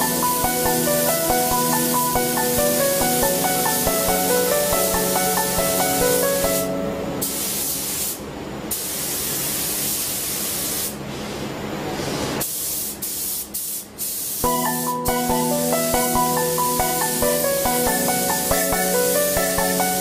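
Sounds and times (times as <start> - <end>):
spray gun hissing: 0.0 - 11.0, 12.4 - 20.0.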